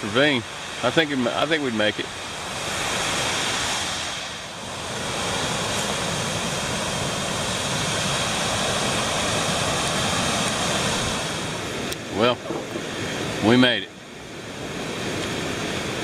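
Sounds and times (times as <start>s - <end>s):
water roaring over a dam: 0.0s - 16.0s.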